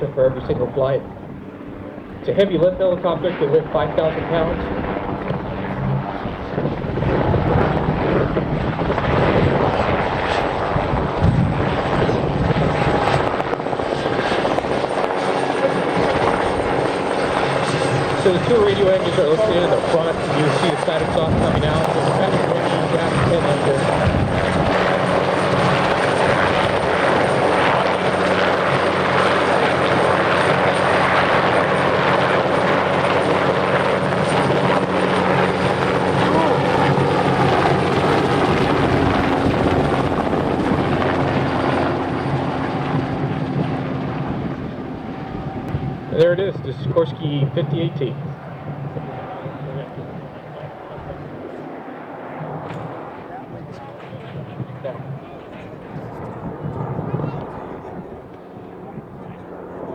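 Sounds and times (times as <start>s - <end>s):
helicopter rotor and turbine: 0.0s - 59.9s.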